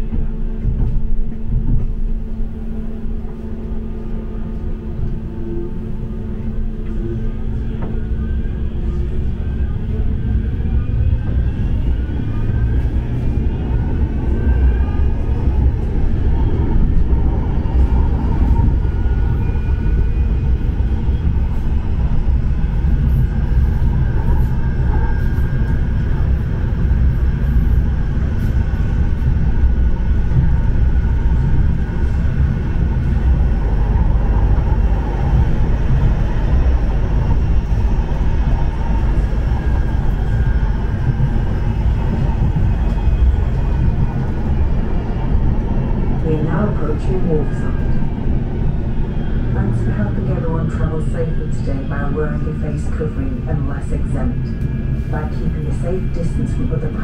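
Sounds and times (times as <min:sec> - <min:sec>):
tram wheels rumbling on rail: 0:00.0 - 0:57.0.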